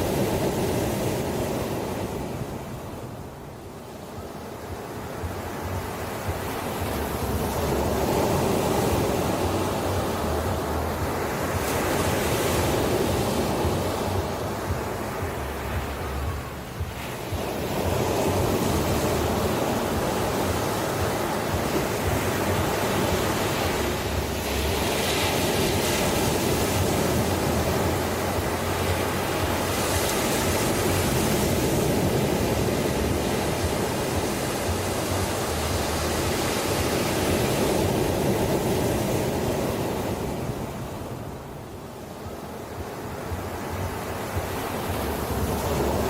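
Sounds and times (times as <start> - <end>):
ocean waves breaking on shore: 0.0 - 46.0.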